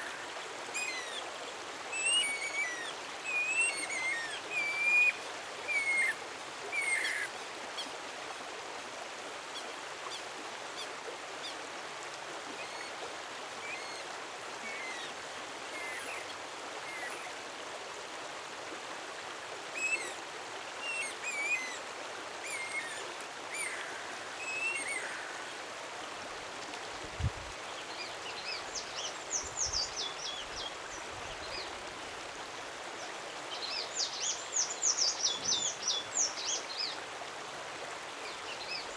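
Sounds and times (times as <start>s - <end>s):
steady rushing stream: 0.0s - 38.9s.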